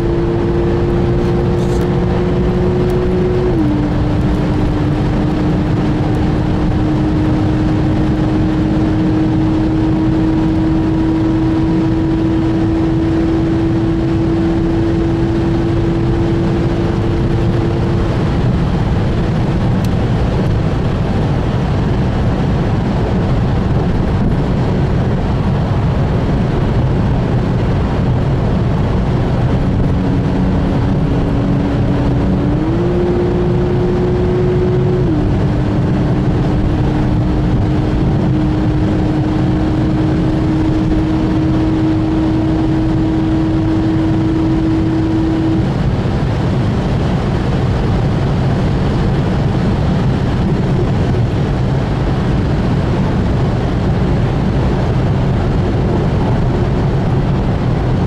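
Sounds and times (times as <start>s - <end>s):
car engine drone: 0.0s - 58.0s
tyre and wind rumble: 0.0s - 58.0s.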